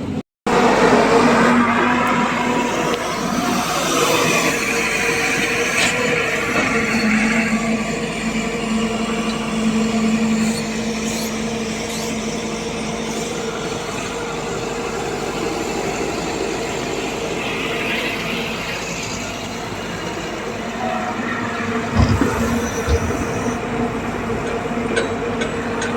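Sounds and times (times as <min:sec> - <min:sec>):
heavy diesel engine droning: 0:00.0 - 0:25.9.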